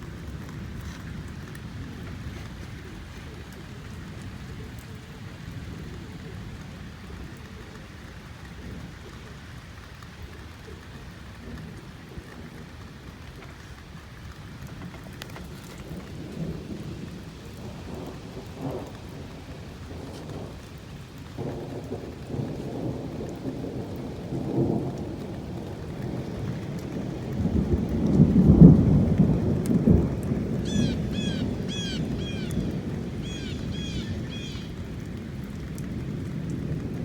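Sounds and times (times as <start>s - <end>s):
rain falling: 0.0s - 37.0s
thunder rumbling: 0.0s - 37.0s.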